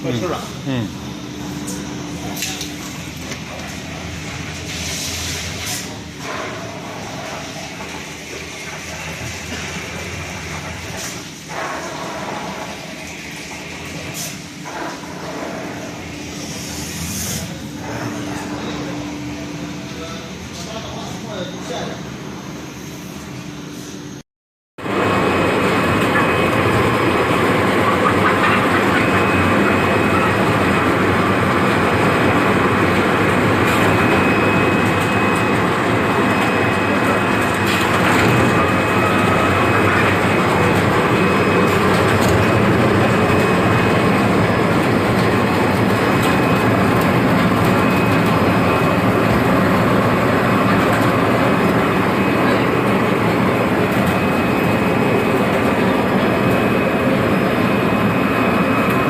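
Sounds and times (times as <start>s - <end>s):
chicken plucking machine running: 0.0s - 22.0s, 24.8s - 59.0s.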